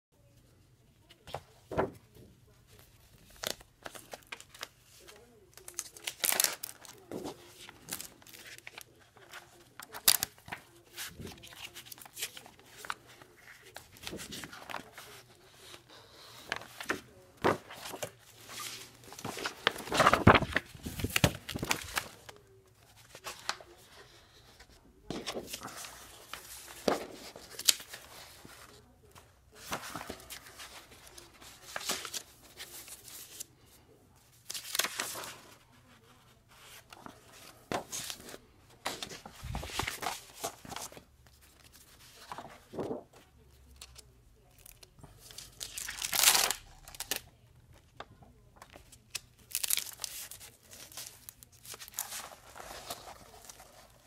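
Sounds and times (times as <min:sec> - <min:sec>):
paper rustling and crinkling: 0:01.0 - 0:54.0.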